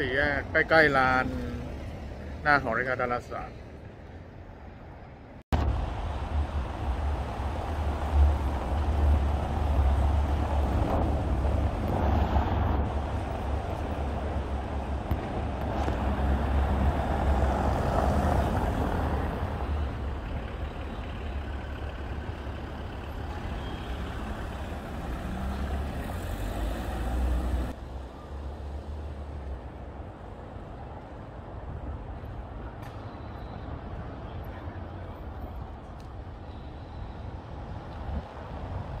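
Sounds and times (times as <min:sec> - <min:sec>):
vehicles passing with engine rumble: 0:00.0 - 0:39.0.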